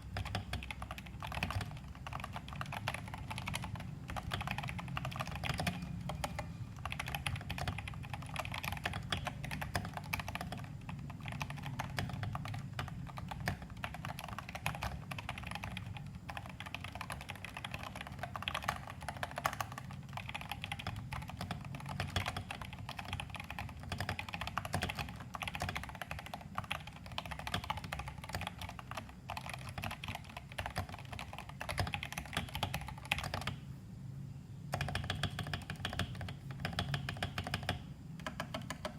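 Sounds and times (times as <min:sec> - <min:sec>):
typing on mechanical keyboard: 0:00.0 - 0:33.6, 0:34.7 - 0:38.9.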